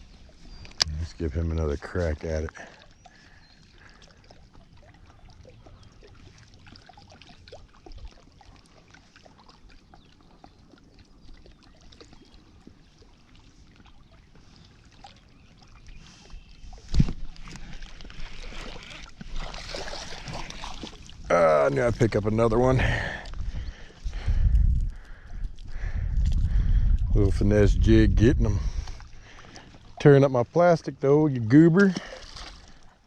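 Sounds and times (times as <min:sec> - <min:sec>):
water lapping at bank: 0:00.0 - 0:33.0.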